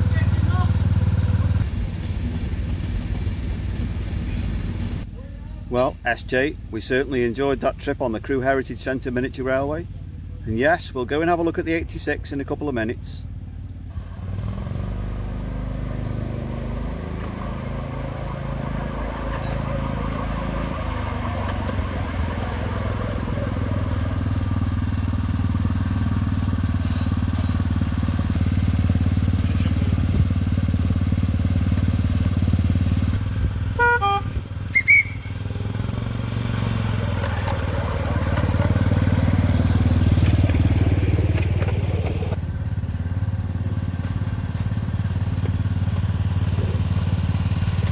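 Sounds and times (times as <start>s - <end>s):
small engine running: 0.0s - 5.0s, 13.9s - 47.9s.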